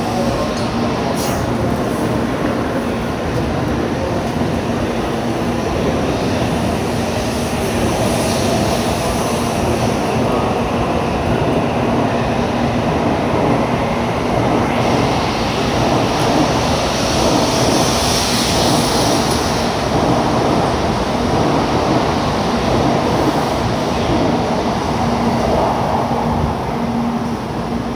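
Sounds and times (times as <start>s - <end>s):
train rushing past: 0.0s - 27.9s.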